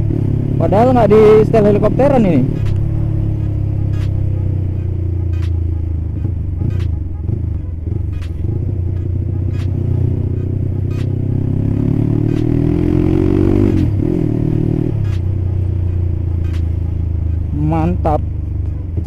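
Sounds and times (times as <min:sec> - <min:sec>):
motorcycle exhaust choppy beat: 0:00.0 - 0:19.0.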